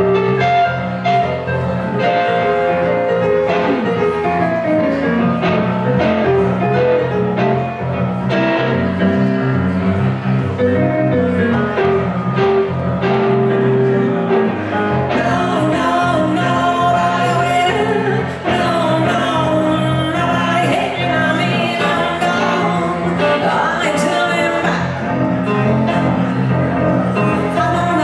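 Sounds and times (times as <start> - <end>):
electric guitar: 0.0 - 28.0
electric keyboard: 0.0 - 28.0.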